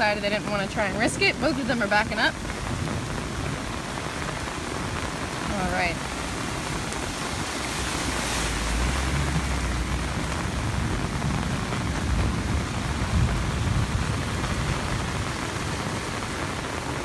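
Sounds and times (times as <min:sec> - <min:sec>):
car driving through water: 0:00.0 - 0:17.0
heavy rain falling: 0:00.0 - 0:17.0
water splashing: 0:00.0 - 0:17.0.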